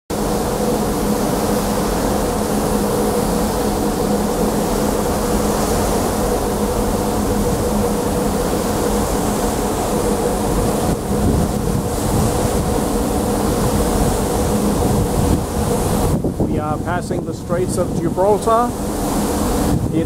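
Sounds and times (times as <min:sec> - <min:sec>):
ship machinery hum: 0:00.1 - 0:20.0
steady rushing noise: 0:00.1 - 0:20.0.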